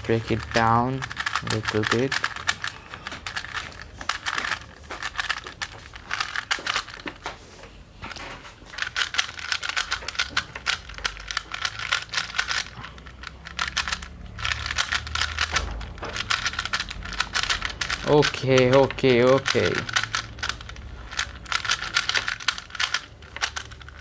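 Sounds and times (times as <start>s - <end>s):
plastic puzzle cube clicking: 0.1s - 7.2s, 8.8s - 24.0s.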